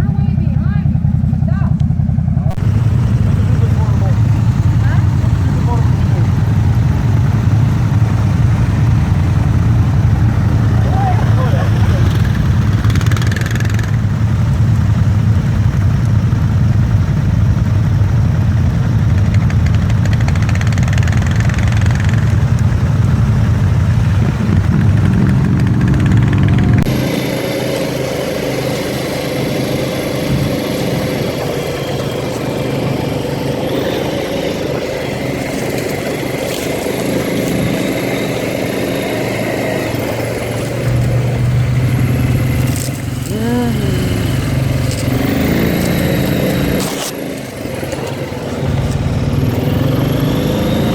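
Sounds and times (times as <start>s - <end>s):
atv engine droning: 0.0s - 50.9s.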